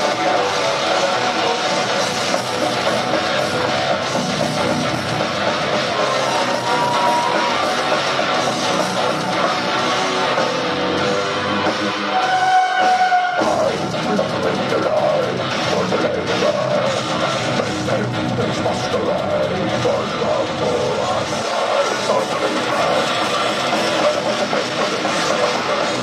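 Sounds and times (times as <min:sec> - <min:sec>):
metal band playing live: 0:00.0 - 0:26.0.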